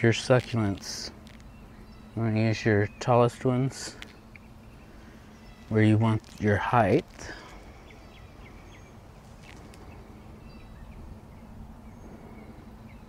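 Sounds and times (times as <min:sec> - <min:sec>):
low background hum: 0:00.0 - 0:13.0
small birds chirping: 0:00.0 - 0:13.0.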